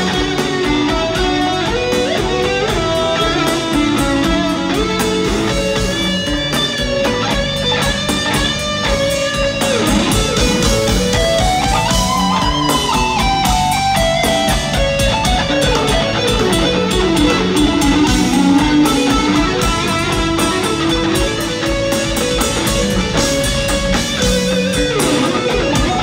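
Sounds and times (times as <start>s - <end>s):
bass guitar: 0.0s - 26.0s
drums: 0.0s - 26.0s
electric guitar lead: 0.0s - 26.0s.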